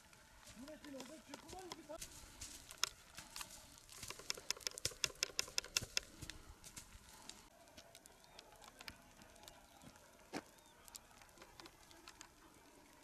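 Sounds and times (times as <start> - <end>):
dry grass and brush crackling: 0.0 - 13.0.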